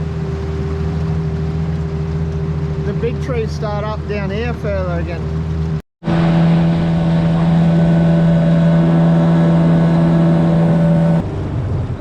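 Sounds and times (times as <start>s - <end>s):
outboard motor running: 0.0s - 11.5s.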